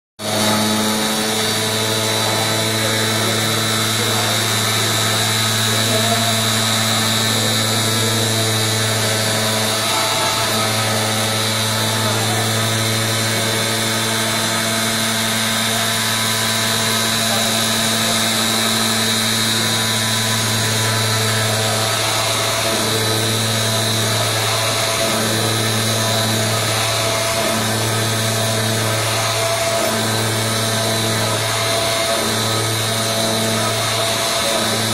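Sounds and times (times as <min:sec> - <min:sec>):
machine hum: 0:00.2 - 0:34.9.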